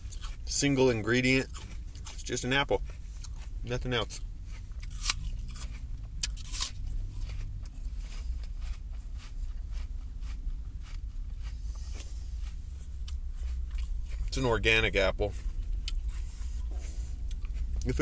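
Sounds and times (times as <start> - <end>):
apple crunching: 0.0 - 18.0
low steady rumble: 0.0 - 18.0
wet chewing: 0.0 - 18.0.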